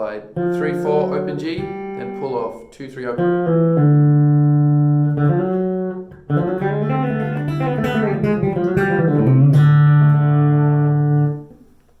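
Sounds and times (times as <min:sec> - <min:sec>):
fast guitar picking: 0:00.4 - 0:11.6.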